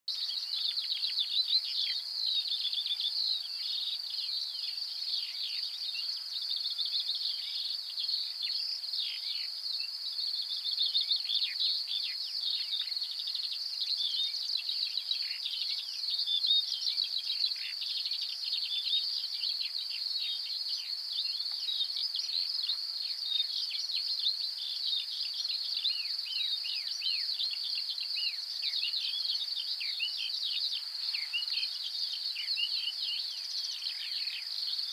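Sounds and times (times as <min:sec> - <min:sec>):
birds chirping: 0:00.1 - 0:34.9
insects trilling: 0:00.1 - 0:34.9.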